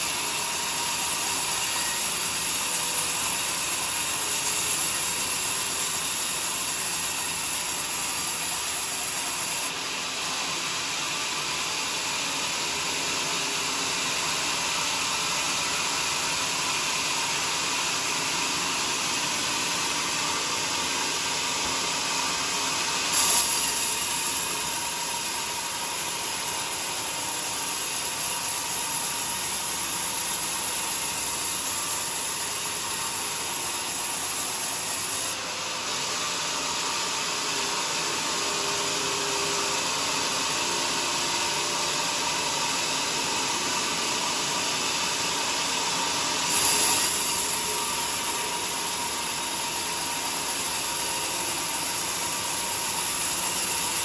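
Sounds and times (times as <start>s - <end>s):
saw cutting a log: 0.0s - 54.0s.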